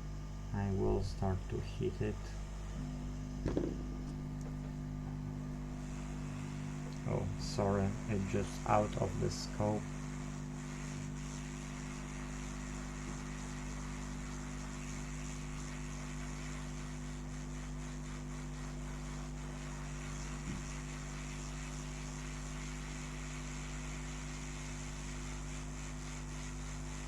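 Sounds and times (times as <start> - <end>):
hot air station blowing: 0.0 - 27.0.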